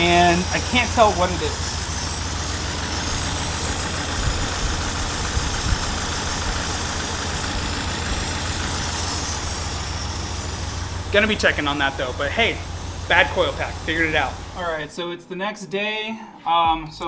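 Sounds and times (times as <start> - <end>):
engine idling roughly: 0.0 - 14.9
steady hiss: 0.0 - 15.0.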